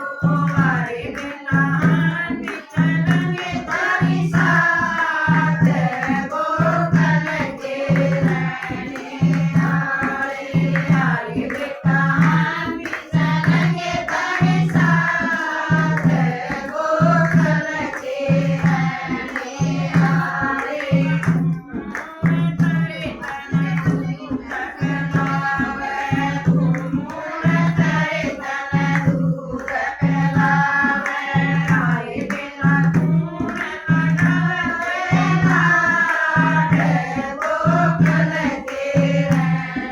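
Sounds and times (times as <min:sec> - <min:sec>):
group singing: 0:00.0 - 0:39.9.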